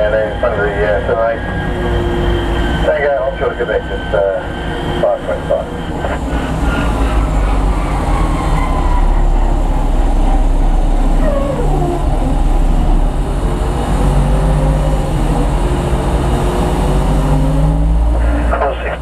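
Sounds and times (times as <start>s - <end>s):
jet engine whine: 0.0s - 19.0s
jet engines rumbling: 0.0s - 19.0s.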